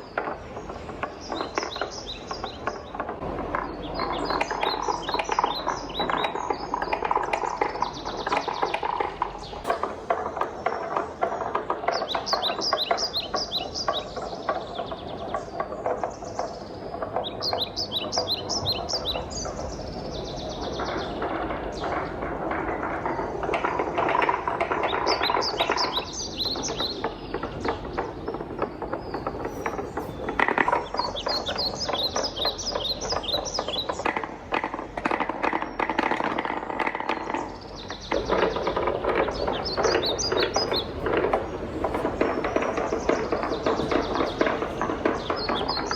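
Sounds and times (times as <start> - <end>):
wooden balls rolling and clattering: 0.0 - 45.9.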